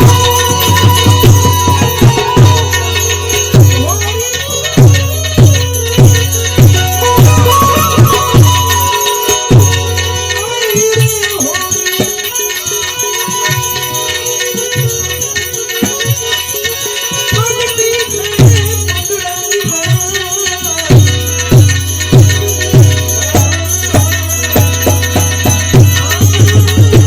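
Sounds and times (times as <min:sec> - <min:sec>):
held gliding melody: 0:00.0 - 0:27.0.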